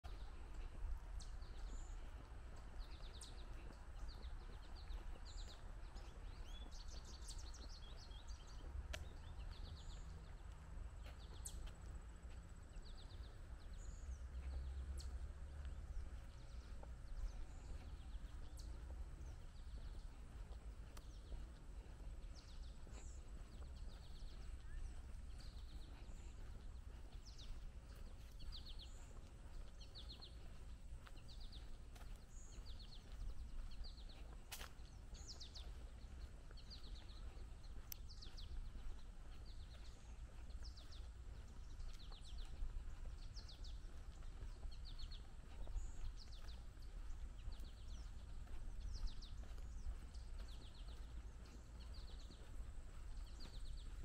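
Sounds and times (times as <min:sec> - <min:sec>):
low outdoor rumble: 0:00.0 - 0:54.0
small birds chirping: 0:00.0 - 0:54.0.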